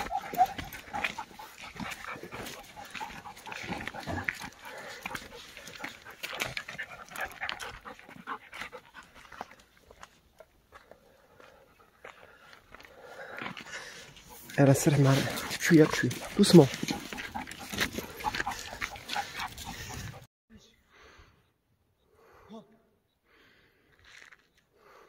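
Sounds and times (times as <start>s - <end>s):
footsteps on gravel: 0.0s - 20.2s
dog panting: 0.0s - 20.3s.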